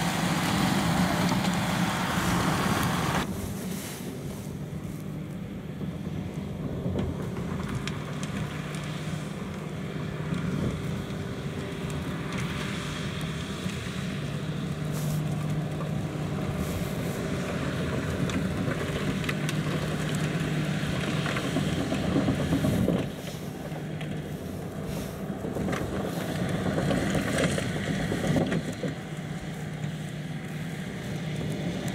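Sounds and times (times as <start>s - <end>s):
spreader flinging manure: 0.0s - 5.2s, 7.9s - 31.9s
tractor diesel engine running: 0.0s - 31.9s.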